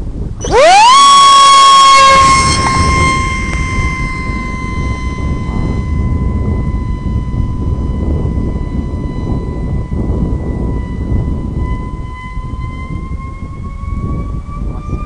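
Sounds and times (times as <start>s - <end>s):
rumbling wind noise: 0.0s - 15.0s
electric motor high whine: 0.2s - 15.0s.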